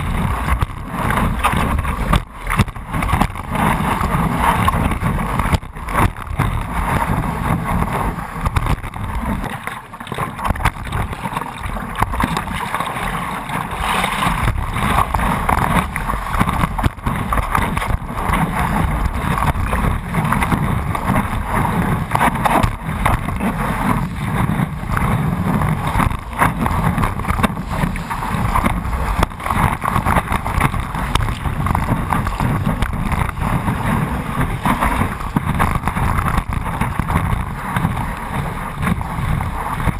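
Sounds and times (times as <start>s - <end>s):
water rushing and splashing: 0.0s - 39.9s
wind buffeting microphone: 0.0s - 39.9s.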